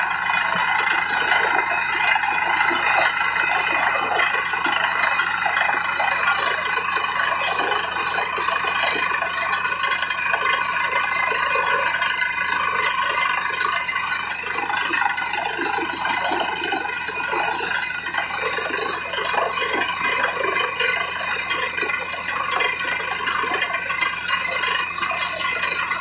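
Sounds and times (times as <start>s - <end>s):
drilling rig high ringing whine: 0.0s - 26.0s
rough churning water and cuttings: 0.0s - 26.0s.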